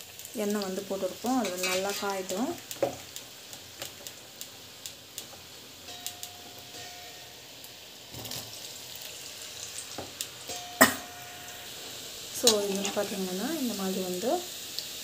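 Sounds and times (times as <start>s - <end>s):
hot oil sizzling and crackling: 0.0s - 15.0s.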